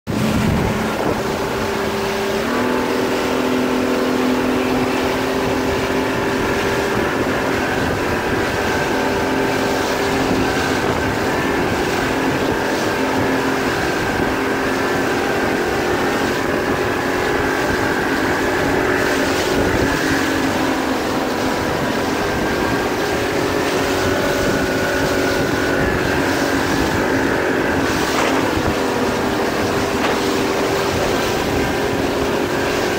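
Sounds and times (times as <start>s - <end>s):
motorboat engine running: 0.1s - 32.9s
wind on microphone: 0.1s - 32.9s.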